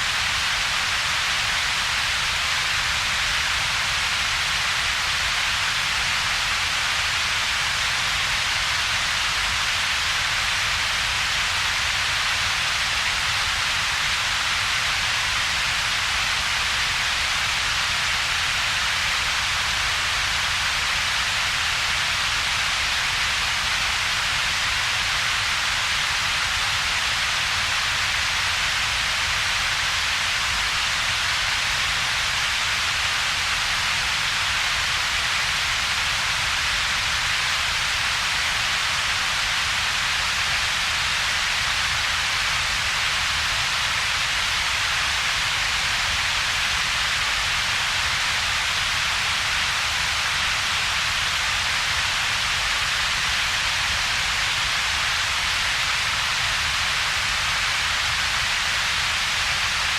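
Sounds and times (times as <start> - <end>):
synthetic steady noise hiss: 0.0 - 59.9.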